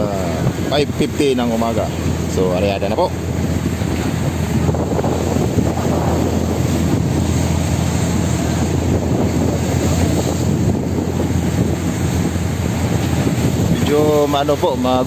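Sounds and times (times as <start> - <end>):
boat engine droning: 0.0 - 15.0
water splashing off hull: 0.0 - 15.0
wind on microphone: 0.0 - 15.0.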